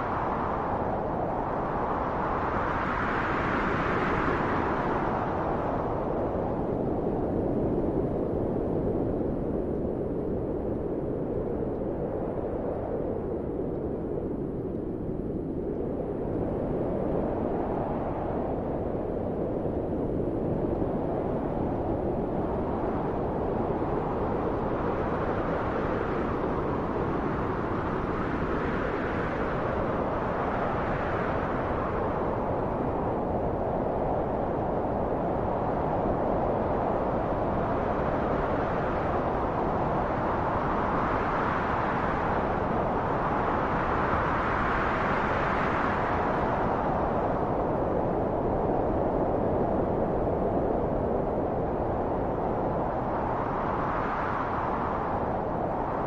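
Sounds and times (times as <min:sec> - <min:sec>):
steady low wind: 0:00.0 - 0:56.0.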